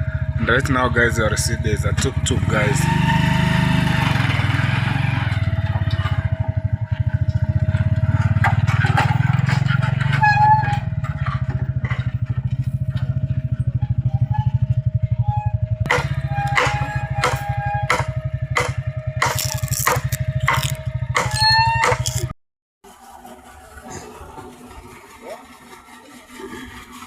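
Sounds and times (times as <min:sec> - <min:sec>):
small engine idling: 0:00.0 - 0:22.3, 0:22.9 - 0:27.0.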